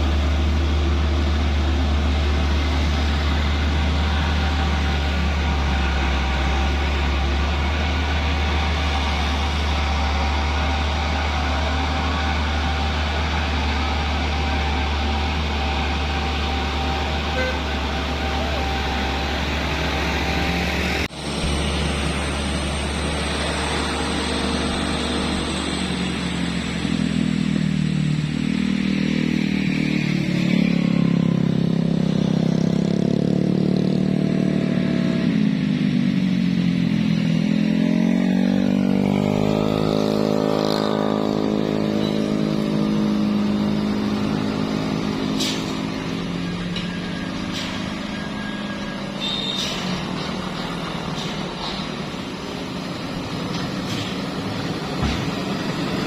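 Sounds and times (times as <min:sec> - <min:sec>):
heavy diesel truck engines: 0:00.0 - 0:56.0.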